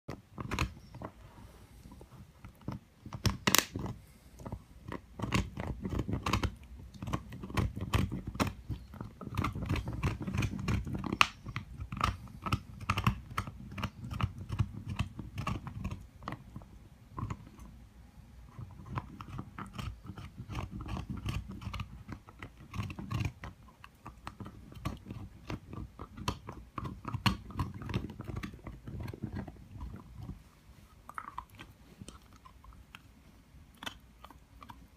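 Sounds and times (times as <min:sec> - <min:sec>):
dog gnawing on antler: 0:00.1 - 0:01.2, 0:01.8 - 0:17.8, 0:18.4 - 0:34.9.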